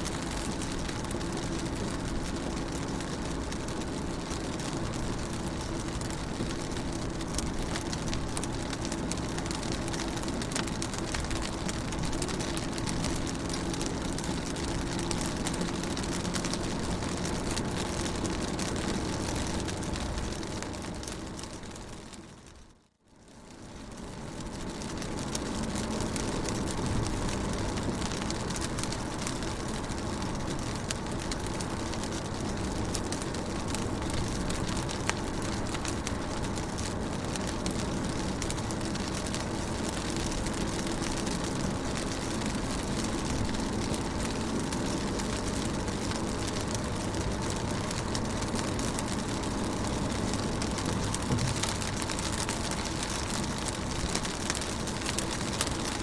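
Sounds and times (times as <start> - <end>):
low steady hum: 0.0 - 56.0
rain on car windows and roof: 0.0 - 56.0.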